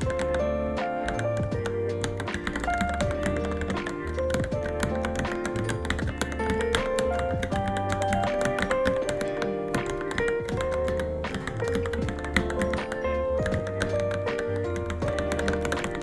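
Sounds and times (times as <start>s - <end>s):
background music with bass line: 0.0s - 16.0s
fast typing on mechanical keyboard: 0.0s - 16.0s.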